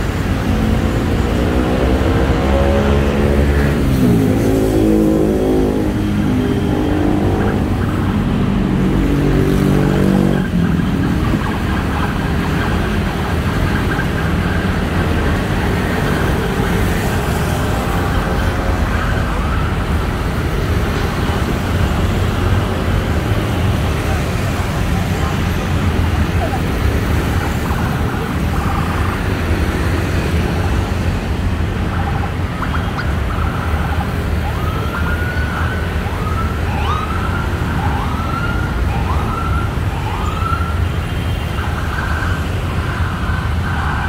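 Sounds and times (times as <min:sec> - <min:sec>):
vehicles accelerating past: 0:00.0 - 0:38.7
traffic rumble of engines and tyres: 0:00.0 - 0:44.0.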